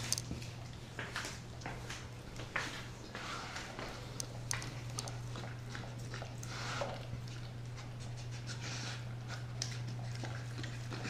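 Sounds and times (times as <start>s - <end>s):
dog chewing and lapping: 0.0s - 11.0s
steady low hum: 0.0s - 11.0s.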